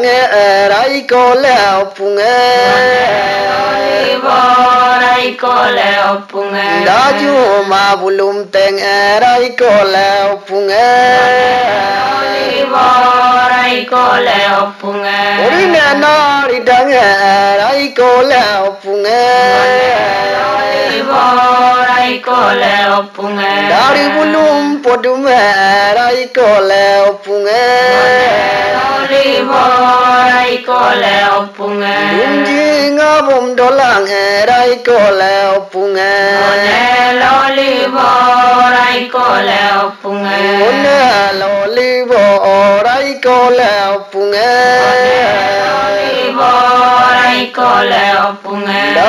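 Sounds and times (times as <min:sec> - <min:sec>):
people chanting: 0:00.0 - 0:49.0.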